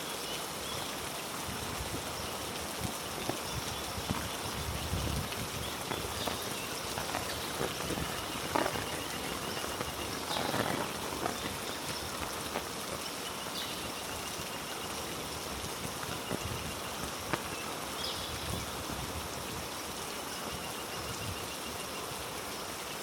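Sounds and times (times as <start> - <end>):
heavy rain on foliage: 0.0 - 23.0.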